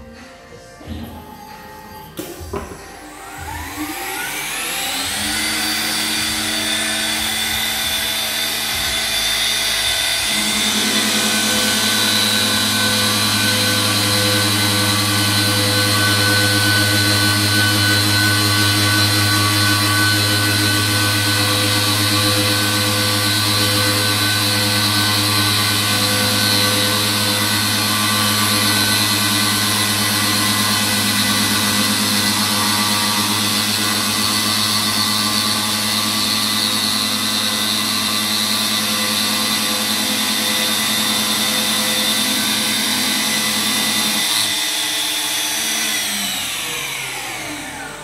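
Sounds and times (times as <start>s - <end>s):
drilling machine whine: 0.8s - 48.0s.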